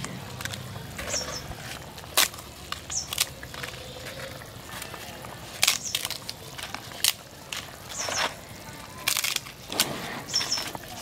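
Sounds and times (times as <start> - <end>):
crisp papads snapping: 0.0 - 11.0.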